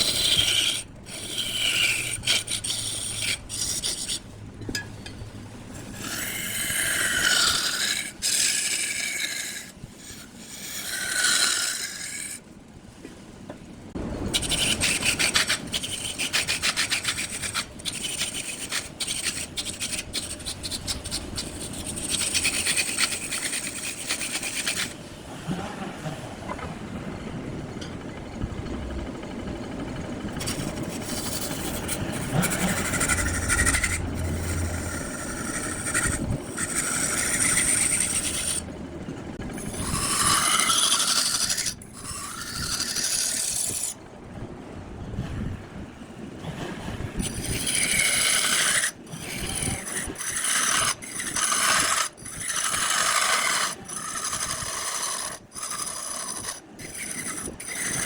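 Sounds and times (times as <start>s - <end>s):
wood lathe turning: 0.0s - 4.6s, 5.2s - 12.4s, 14.0s - 25.6s, 26.8s - 44.1s, 47.2s - 58.0s
tool scraping spinning wood: 0.0s - 12.4s, 14.0s - 44.1s, 46.4s - 58.0s.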